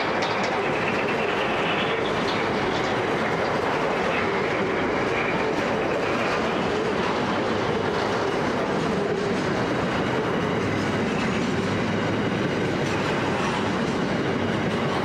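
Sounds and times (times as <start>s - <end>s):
steel train wheels on rail: 0.0s - 15.0s.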